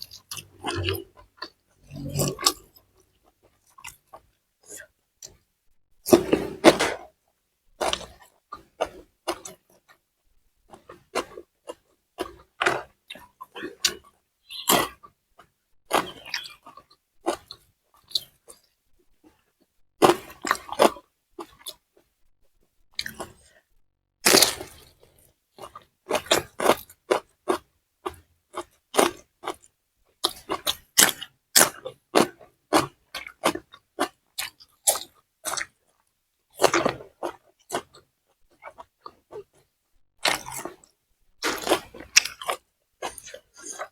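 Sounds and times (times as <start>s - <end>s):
crunching and chewing: 0.0s - 5.4s, 7.8s - 10.0s, 10.7s - 22.1s, 23.0s - 43.9s.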